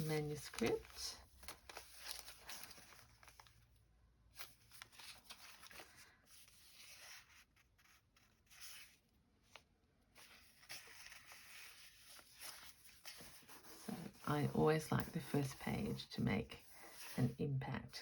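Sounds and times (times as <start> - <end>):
paper rustling: 0.0 - 17.4.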